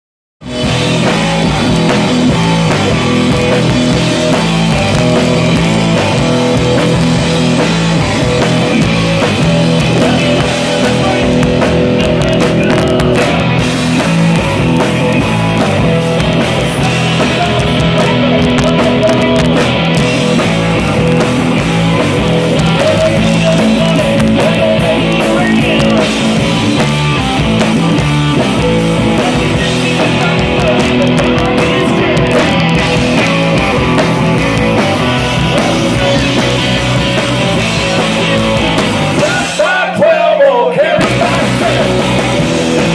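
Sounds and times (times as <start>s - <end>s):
bass guitar: 0.4s - 42.9s
drum kit: 0.4s - 42.9s
electric guitars: 0.4s - 42.9s.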